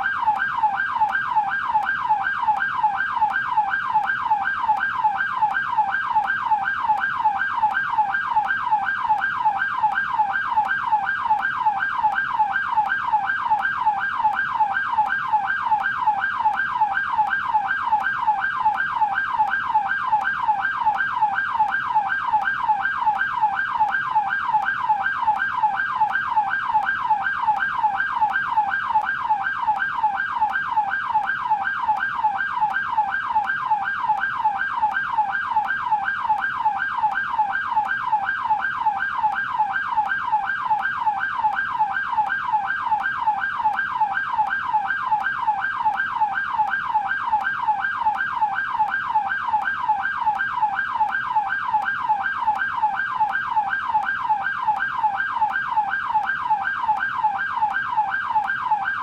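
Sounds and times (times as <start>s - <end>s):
police yelp siren: 0.0s - 59.0s.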